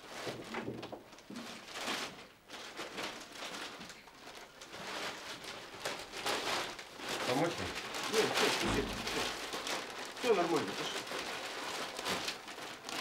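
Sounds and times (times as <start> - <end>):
rustling belongings: 0.0 - 13.0.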